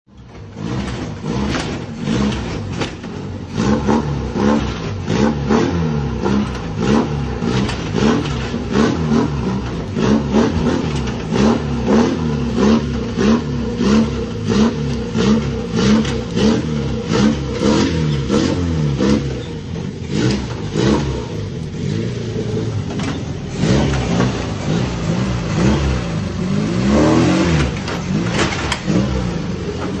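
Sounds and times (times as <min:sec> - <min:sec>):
engine sputtering: 0:00.1 - 0:30.0.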